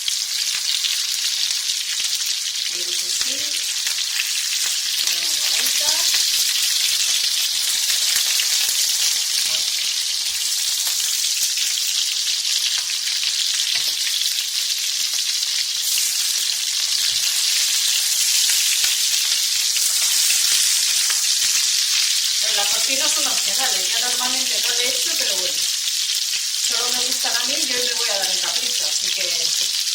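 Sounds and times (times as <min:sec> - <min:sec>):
prawns sizzling in hot oil: 0:00.0 - 0:29.9.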